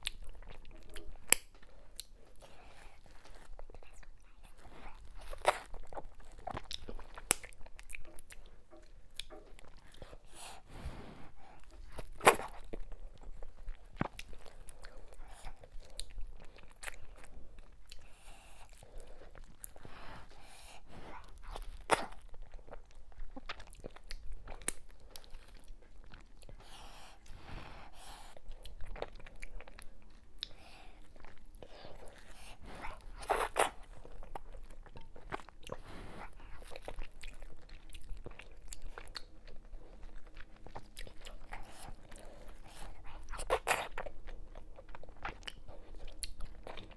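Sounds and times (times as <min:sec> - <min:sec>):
chewing and wet mouth sounds: 0:00.0 - 0:46.9.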